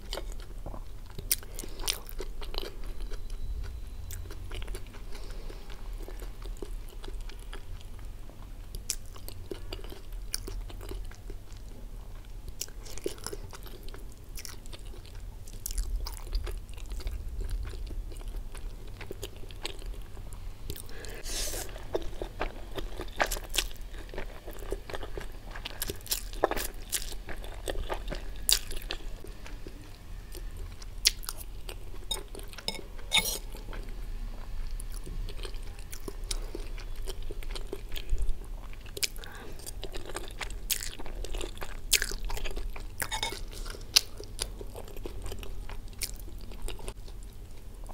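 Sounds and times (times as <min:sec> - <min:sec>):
close chewing with wet mouth sounds: 0:00.0 - 0:47.9.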